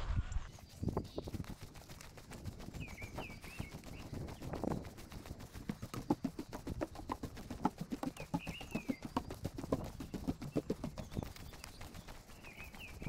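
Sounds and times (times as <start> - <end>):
bird chirping: 0.5 - 4.8, 5.8 - 13.0.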